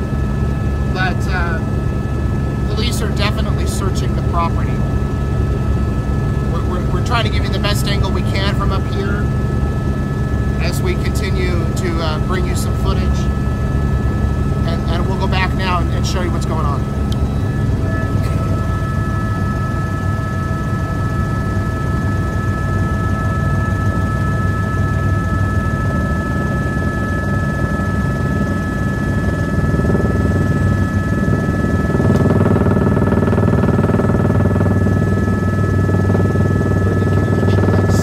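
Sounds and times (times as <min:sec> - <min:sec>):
helicopter cabin whine and drone: 0:00.0 - 0:38.0.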